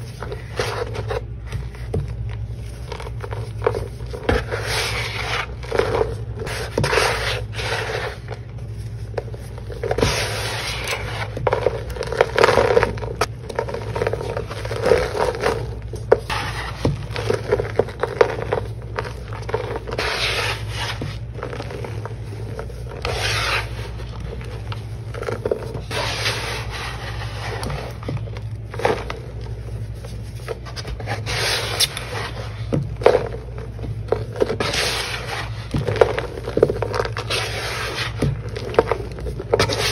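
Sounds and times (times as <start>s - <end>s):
hand scraping gritty powder: 0.0s - 39.9s.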